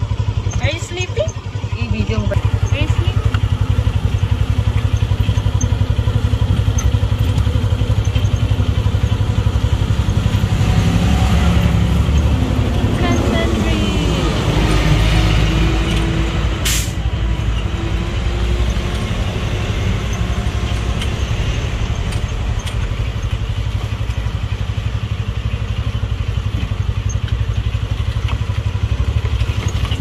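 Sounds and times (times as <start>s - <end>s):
motorcycle engine rumbling: 0.0s - 30.0s.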